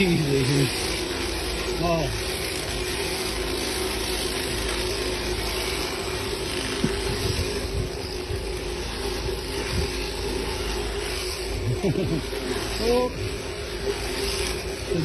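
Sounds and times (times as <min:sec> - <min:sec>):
electric sheep shears humming: 0:00.0 - 0:15.0.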